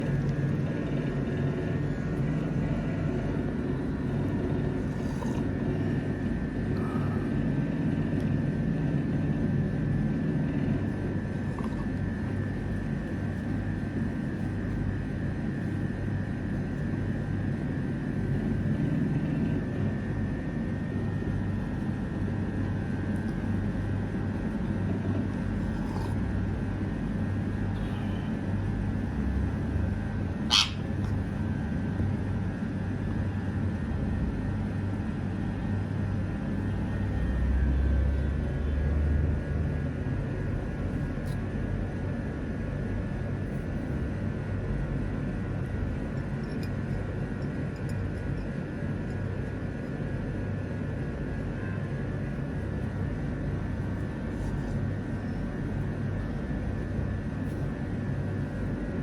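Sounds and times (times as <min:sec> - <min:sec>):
mechanical hum with high whine: 0:00.0 - 0:59.0.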